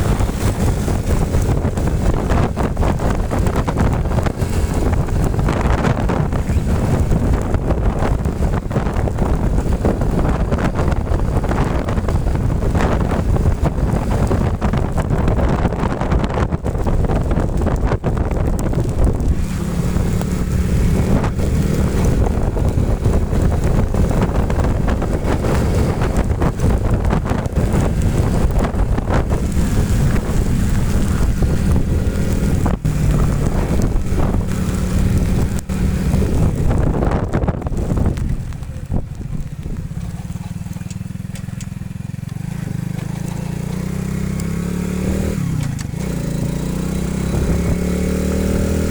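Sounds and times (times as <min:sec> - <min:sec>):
motorcycle engine: 0:00.0 - 0:48.9
wind buffeting microphone: 0:00.0 - 0:48.9.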